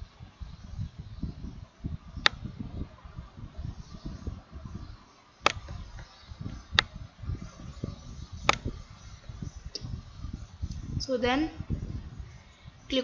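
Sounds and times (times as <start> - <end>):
low uneven rumble: 0.0 - 13.0.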